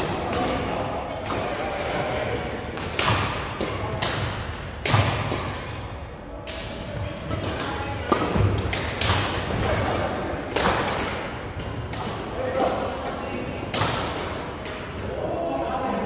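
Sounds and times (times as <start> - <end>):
rackets hitting shuttlecock: 0.0 - 5.8, 6.4 - 14.9.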